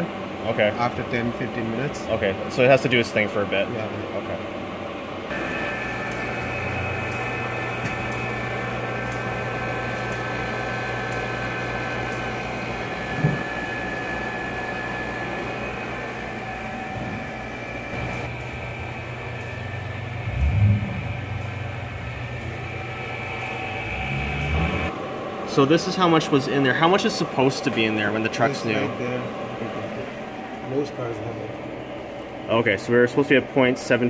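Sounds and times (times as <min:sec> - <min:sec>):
machine humming: 0:00.0 - 0:34.0.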